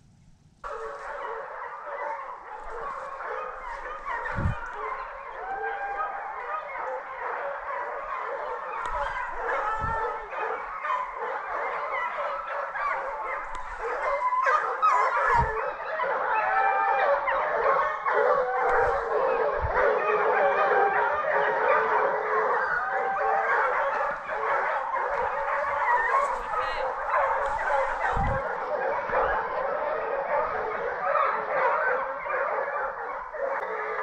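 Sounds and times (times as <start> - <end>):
hounds baying and yelping: 0.6 - 34.0.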